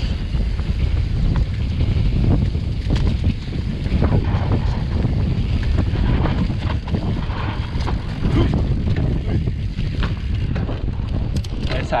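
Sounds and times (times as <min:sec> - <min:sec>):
steady rumble: 0:00.0 - 0:12.0
wind buffeting microphone: 0:00.0 - 0:12.0
mountain bike knocks and rattles: 0:01.3 - 0:12.0.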